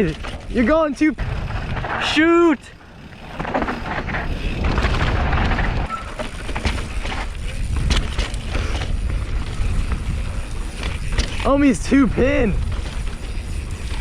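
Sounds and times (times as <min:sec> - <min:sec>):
bike rattling over bumps: 0:00.0 - 0:14.0
tyres on loose dirt: 0:00.0 - 0:14.0
wind buffeting microphone: 0:02.7 - 0:14.0.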